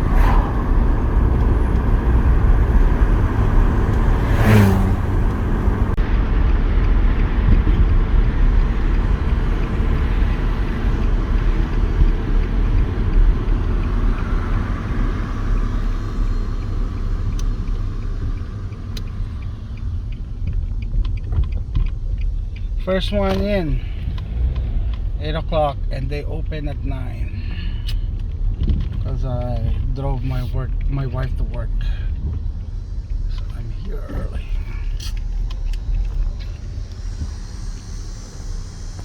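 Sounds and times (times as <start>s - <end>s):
car engine rumble: 0.0s - 39.0s
road noise: 0.0s - 39.0s.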